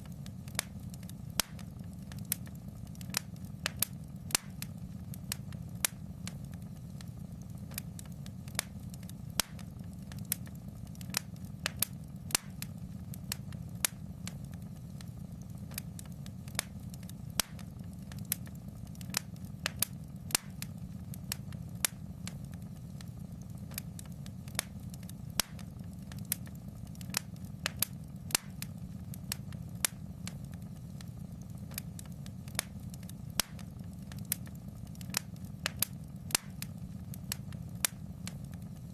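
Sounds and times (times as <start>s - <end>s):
low rumble of fire: 0.0s - 38.9s
wood fire crackling: 0.0s - 38.9s.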